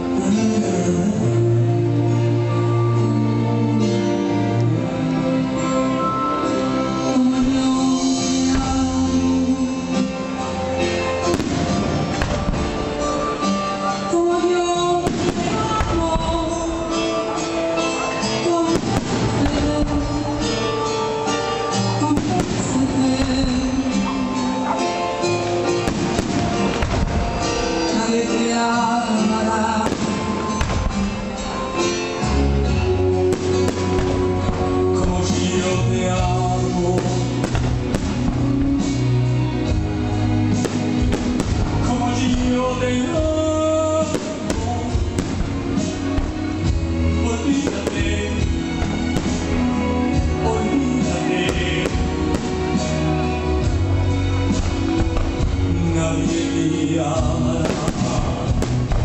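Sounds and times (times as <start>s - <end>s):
music with singing: 0.0s - 59.0s
fireworks bursting: 7.4s - 56.6s, 57.2s - 59.0s.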